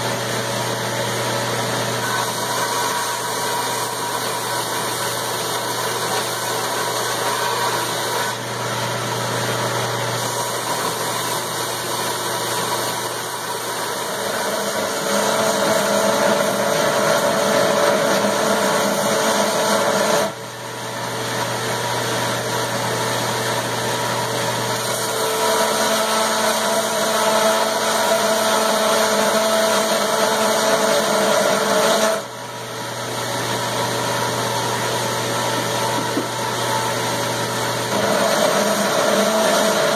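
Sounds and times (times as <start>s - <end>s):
belt grinder grinding steel: 0.0s - 39.9s.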